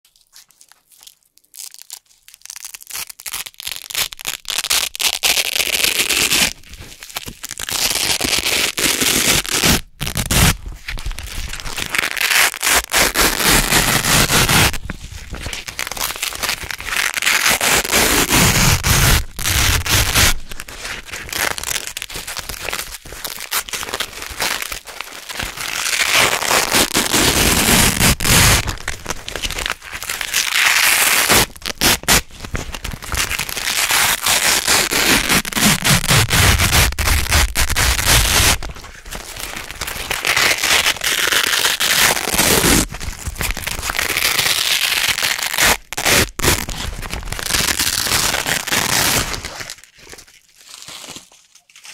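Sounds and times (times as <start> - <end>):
hook-and-loop strips ripping apart: 0.1 - 51.9.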